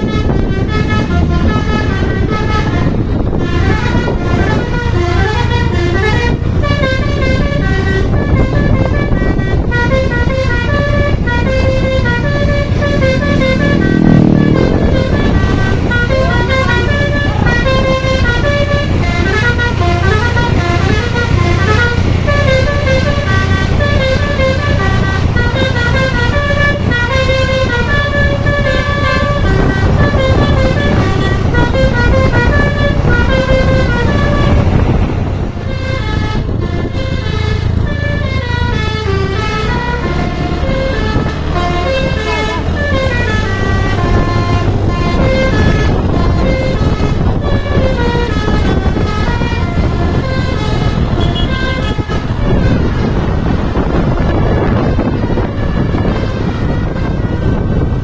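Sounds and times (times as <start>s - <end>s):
air horn playing a tune: 0.0s - 58.0s
diesel engine running: 0.0s - 58.0s.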